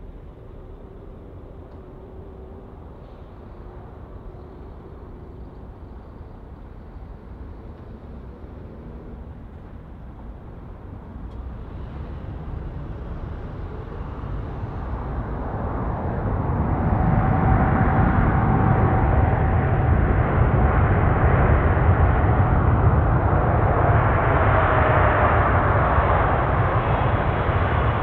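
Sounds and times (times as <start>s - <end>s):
jet engine whine: 0.0s - 28.0s
jet engines rumbling: 0.0s - 28.0s.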